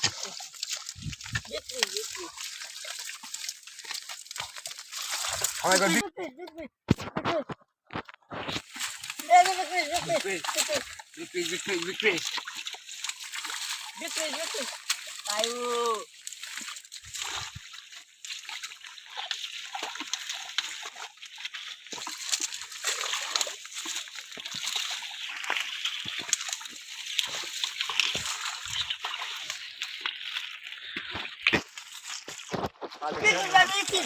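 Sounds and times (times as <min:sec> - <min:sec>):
pond water splashing: 0:00.0 - 0:34.0.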